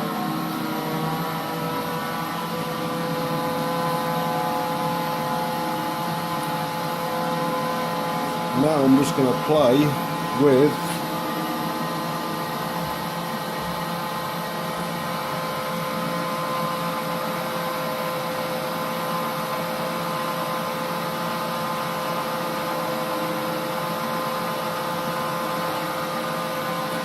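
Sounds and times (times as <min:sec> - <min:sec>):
lathe motor humming: 0:00.0 - 0:27.0.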